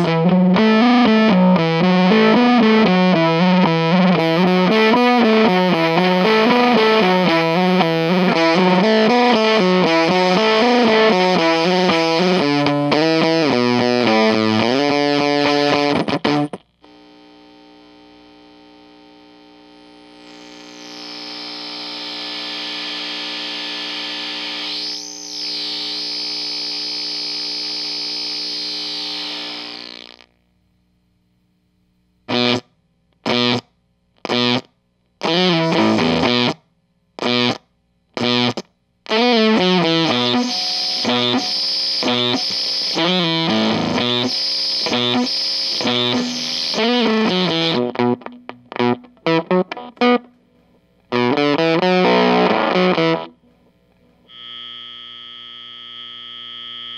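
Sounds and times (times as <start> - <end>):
fuzzy electric guitar: 0.0 - 30.4, 32.3 - 56.9.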